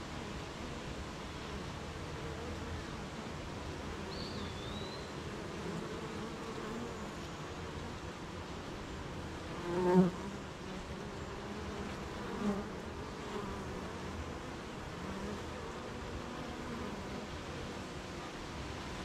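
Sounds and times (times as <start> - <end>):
honeybees buzzing: 2.0 - 8.0, 8.6 - 19.0.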